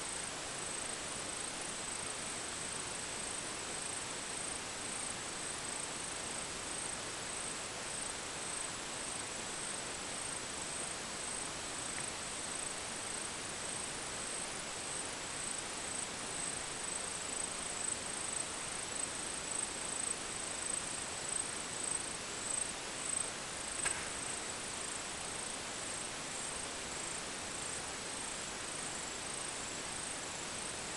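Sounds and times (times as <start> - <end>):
insect chirping: 0.0 - 30.9
steady hiss: 0.0 - 30.9.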